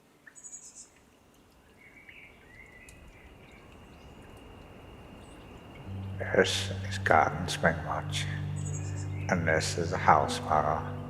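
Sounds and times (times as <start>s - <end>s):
faint outdoor hum: 0.0s - 11.0s
small birds chirping: 0.2s - 11.0s.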